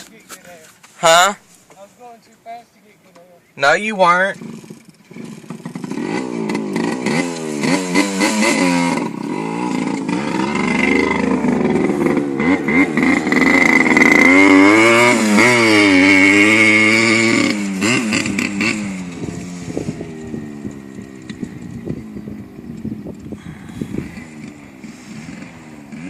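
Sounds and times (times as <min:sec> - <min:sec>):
dirt bike engine revving: 0:03.9 - 0:26.0.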